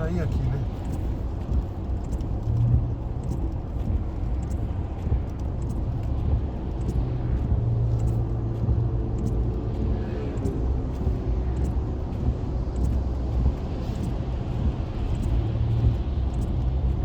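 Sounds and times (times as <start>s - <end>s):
car engine and tyres rumbling: 0.0s - 17.0s
faint ticks: 0.1s - 17.0s.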